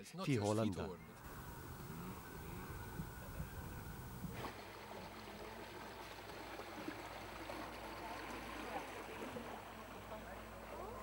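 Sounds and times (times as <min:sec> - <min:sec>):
faint distant voices: 0:01.1 - 0:11.0
water lapping around a boat: 0:01.3 - 0:11.0.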